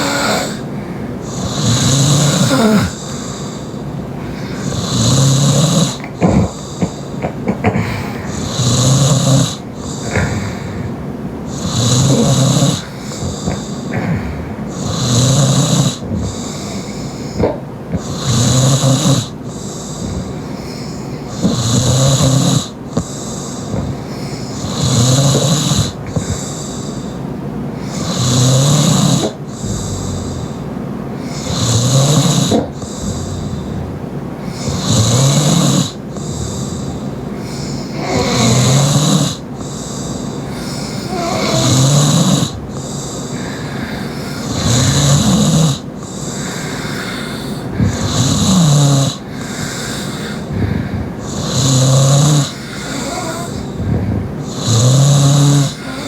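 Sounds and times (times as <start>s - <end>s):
fainter snores: 0.0s - 56.0s
loud open-mouth snoring: 0.0s - 56.0s.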